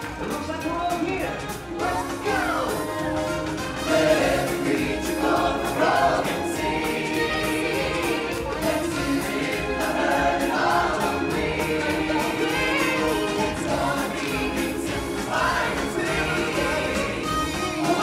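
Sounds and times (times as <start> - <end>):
stage-show music with steady beat: 0.0 - 18.0
choir singing: 1.7 - 18.0.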